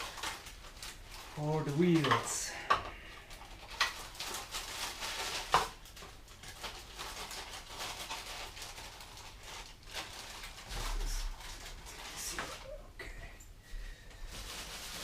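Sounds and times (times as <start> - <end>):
packaging rustling: 0.0 - 12.9, 13.9 - 15.0.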